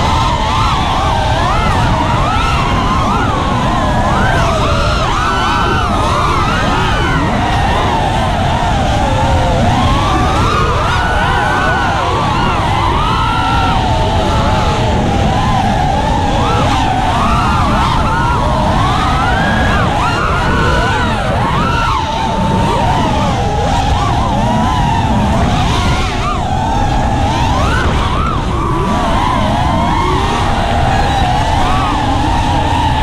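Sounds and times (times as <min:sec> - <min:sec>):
drone motors whining: 0:00.0 - 0:33.0
low rush of noise: 0:00.0 - 0:33.0.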